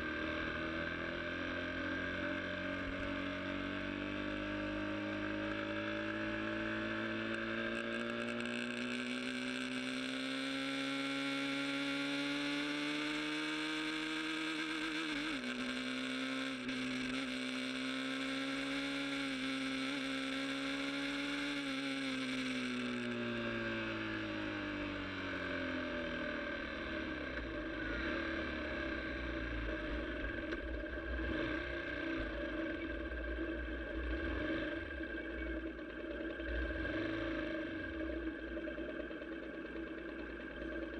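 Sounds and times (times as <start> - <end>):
motorcycle engine at high revs: 0.0 - 40.9.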